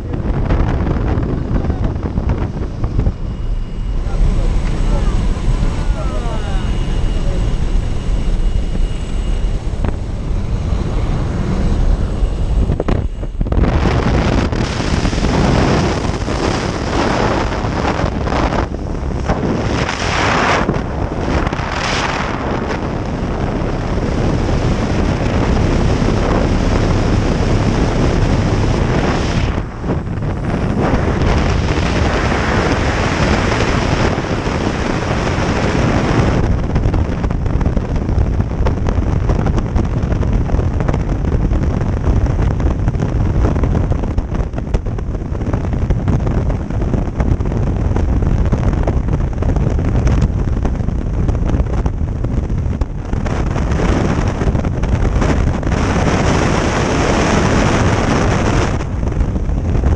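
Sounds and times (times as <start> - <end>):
plane engine running: 0.0 - 59.9
wind buffeting microphone: 0.0 - 59.9.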